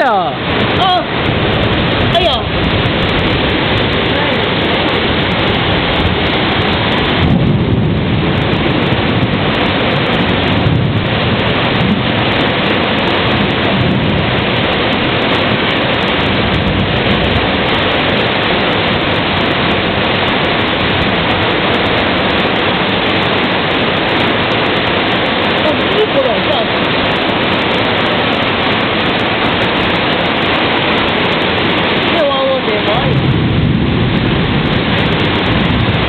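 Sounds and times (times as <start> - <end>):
heavy rain pouring: 0.0 - 36.0
low rumbles: 0.0 - 36.0.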